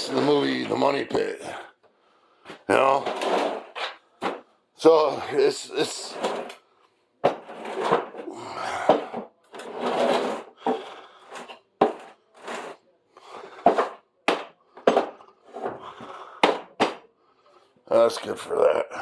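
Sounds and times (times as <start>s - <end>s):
objects clattering and scraping: 0.0s - 1.6s, 2.4s - 4.5s, 5.1s - 17.1s.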